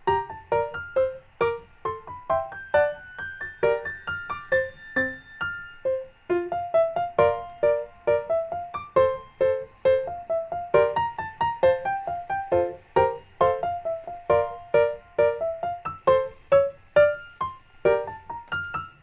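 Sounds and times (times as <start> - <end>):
solo piano tune: 0.0 - 19.0.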